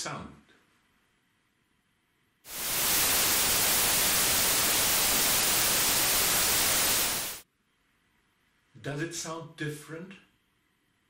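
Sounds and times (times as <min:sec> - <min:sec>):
white noise hiss: 0:00.0 - 0:11.0.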